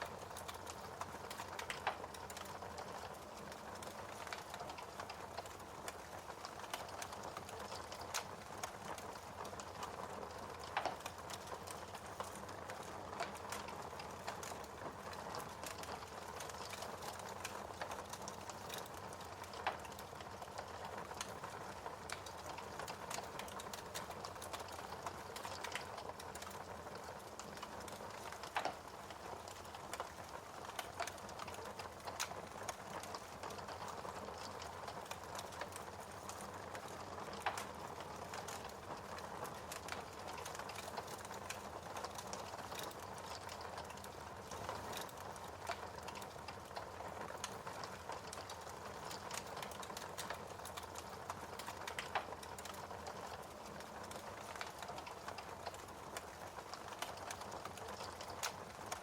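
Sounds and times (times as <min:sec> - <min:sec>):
fireplace fire crackling: 0:00.0 - 0:59.0
loud snaps of fire: 0:00.0 - 0:59.0.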